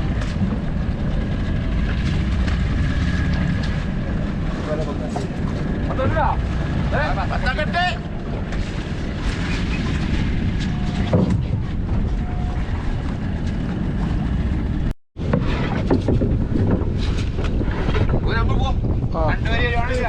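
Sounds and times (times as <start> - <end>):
boat engine: 0.0 - 20.0
sea: 0.0 - 20.0
wind buffeting microphone: 0.0 - 20.0.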